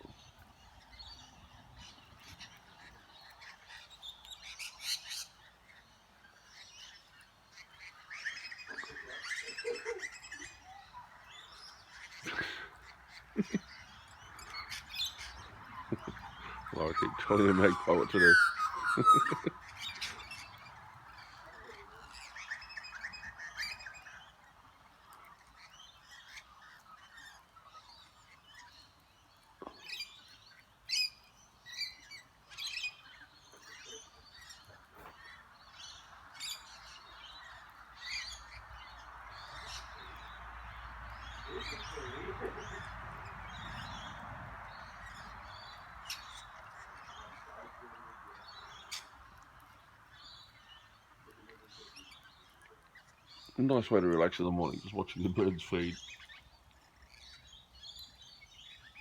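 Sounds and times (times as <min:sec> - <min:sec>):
birds chirping and squawking: 0:00.0 - 0:59.0.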